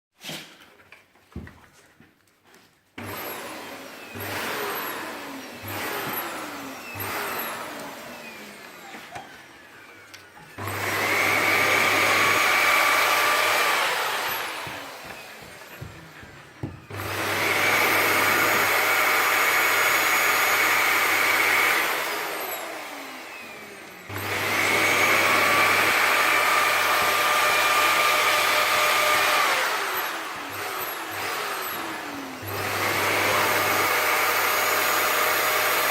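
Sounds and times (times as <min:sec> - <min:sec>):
vacuum cleaner running: 0:03.0 - 0:35.9.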